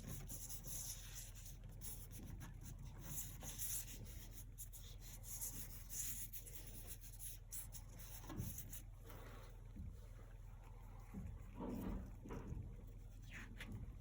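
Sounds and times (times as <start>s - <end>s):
paintbrush strokes: 0.0s - 14.0s.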